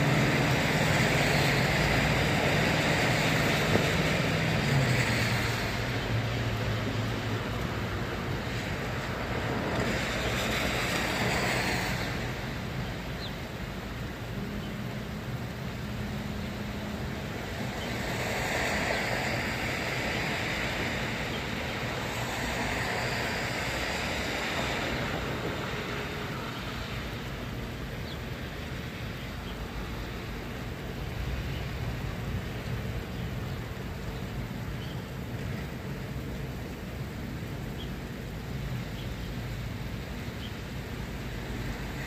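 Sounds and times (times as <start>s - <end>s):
steady rain: 0.0s - 42.0s
tyres hissing on wet pavement: 0.0s - 42.0s.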